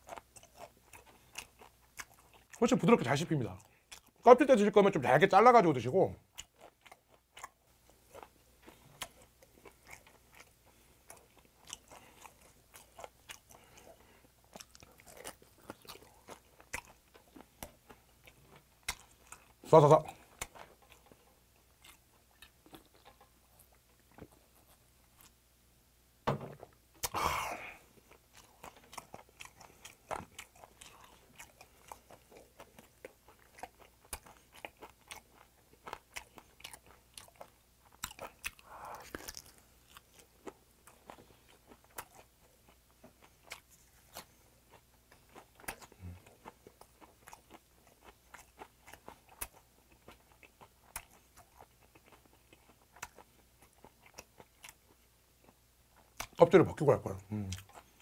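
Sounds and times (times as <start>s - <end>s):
open-mouthed chewing and lip smacking: 0.0s - 4.6s, 6.2s - 25.4s, 26.6s - 58.0s.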